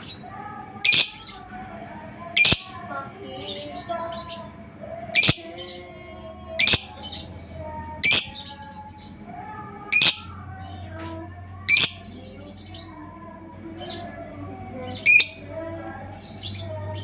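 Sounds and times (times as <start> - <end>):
birds twittering: 0.0 - 17.0.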